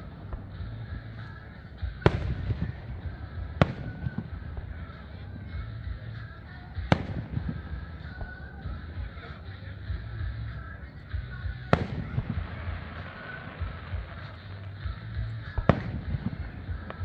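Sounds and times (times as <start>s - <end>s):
fireworks bangs: 0.0s - 17.0s
low rumble: 0.0s - 17.0s.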